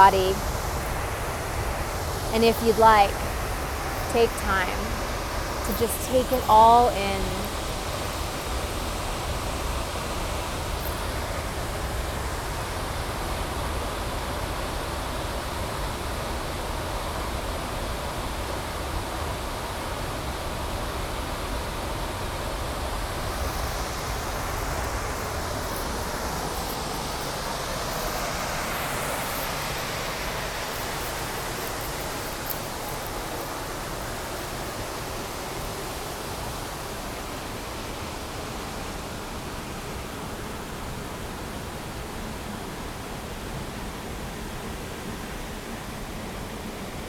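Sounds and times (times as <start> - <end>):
waterfall running: 0.0 - 42.8.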